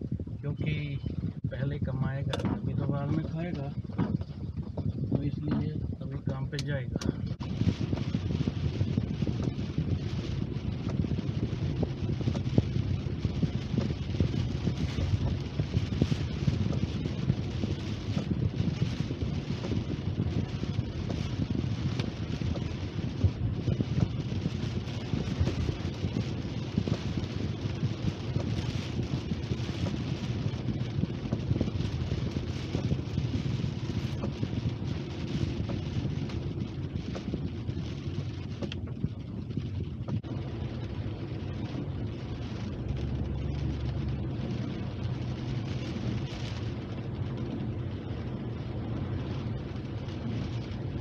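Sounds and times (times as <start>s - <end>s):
car rumble on wet road: 0.0s - 51.0s
rain ticking on windscreen: 0.0s - 51.0s.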